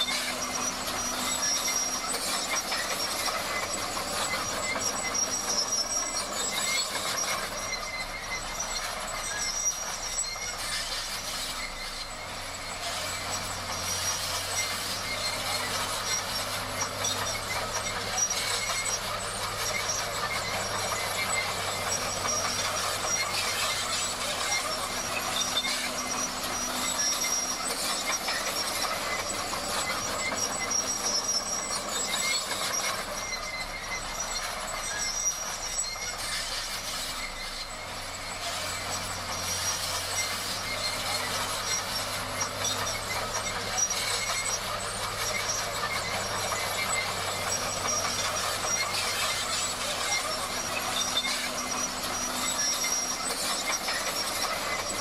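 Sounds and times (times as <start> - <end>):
bulldozer engine running: 0.0 - 55.0
steel tracks clattering and squealing: 0.0 - 55.0.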